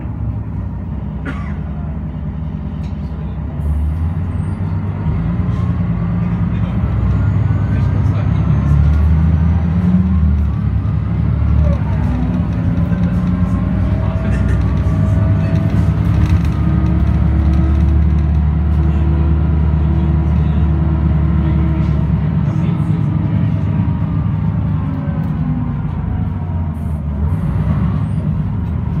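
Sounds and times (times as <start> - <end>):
bus diesel engine drone: 0.0 - 29.0.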